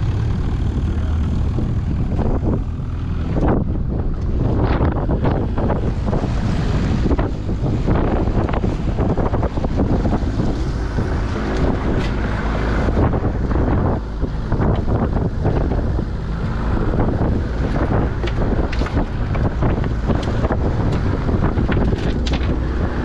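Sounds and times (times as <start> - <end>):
outboard motor drone: 0.0 - 23.0
wind buffeting microphone: 0.0 - 23.0
hull slapping on waves: 3.4 - 23.0.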